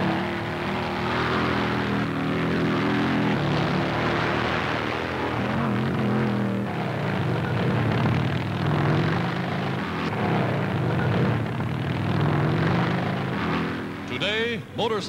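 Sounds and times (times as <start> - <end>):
motorcycle engines droning: 0.0 - 15.0.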